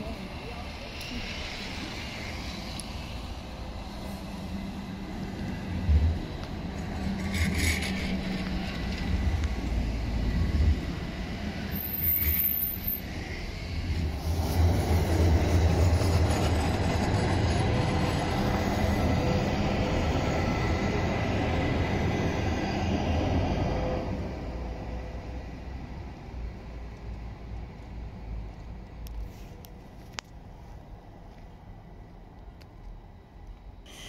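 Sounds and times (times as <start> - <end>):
road traffic: 0.0 - 34.0
tram wheels rumbling on rails: 0.0 - 34.0.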